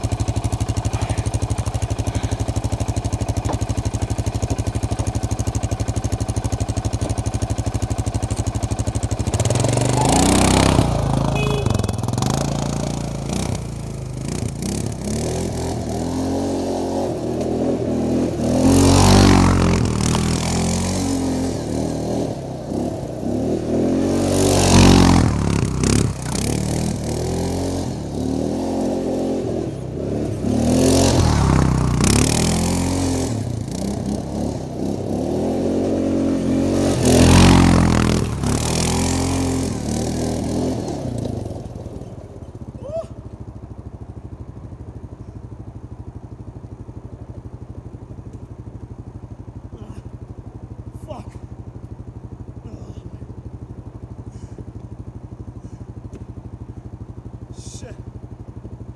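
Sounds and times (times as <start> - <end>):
quad bike engine revving: 0.0 - 58.8.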